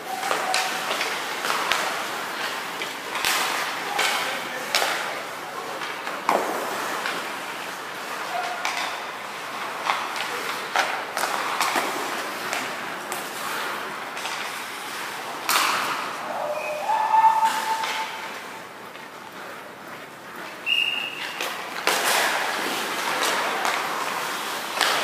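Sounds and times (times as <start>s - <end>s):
hockey sticks and pucks clacking: 0.0s - 25.0s
skates scraping on ice: 0.0s - 25.0s.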